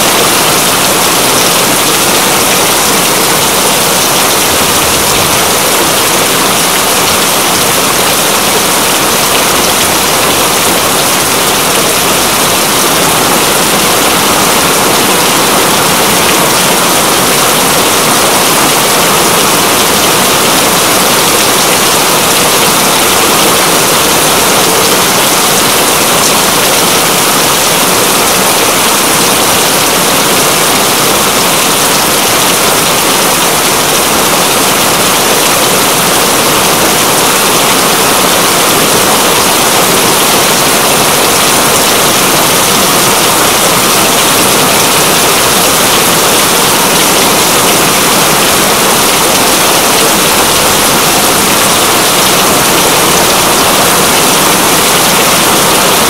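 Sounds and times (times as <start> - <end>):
heavy rainfall: 0.0 - 56.0.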